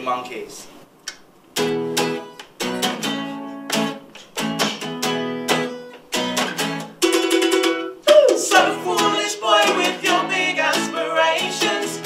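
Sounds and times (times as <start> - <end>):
acoustic guitar strumming chords: 1.6 - 12.0.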